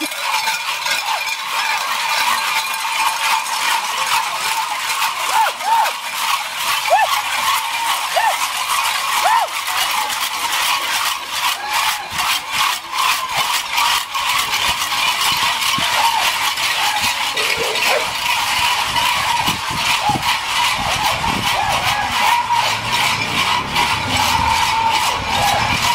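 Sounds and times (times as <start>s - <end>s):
cowbells clanking and jangling: 0.0s - 25.9s.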